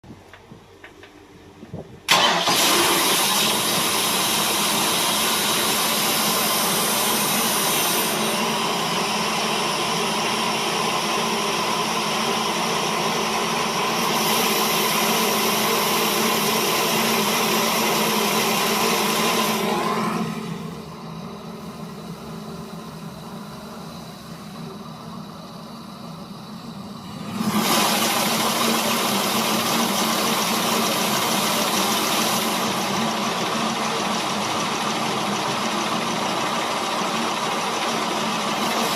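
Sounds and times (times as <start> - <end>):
loud steady machine noise: 2.1 - 38.9.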